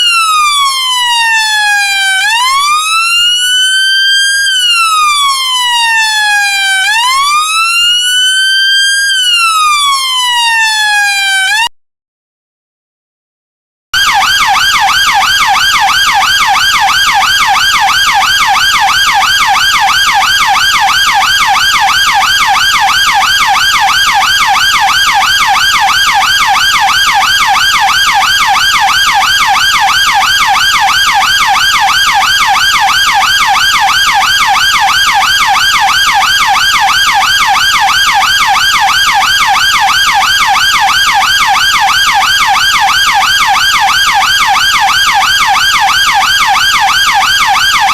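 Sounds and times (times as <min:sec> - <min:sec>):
police siren yelping: 0:00.0 - 0:11.7, 0:14.0 - 0:47.9.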